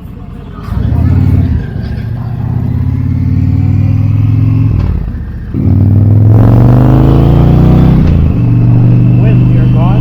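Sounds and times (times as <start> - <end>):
motorcycle engine accelerating: 0.7 - 10.0.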